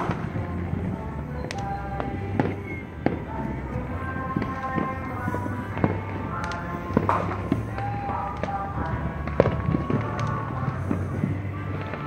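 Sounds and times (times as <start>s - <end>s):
fireworks bangs and pops: 0.0s - 12.0s
music playing: 0.0s - 12.0s.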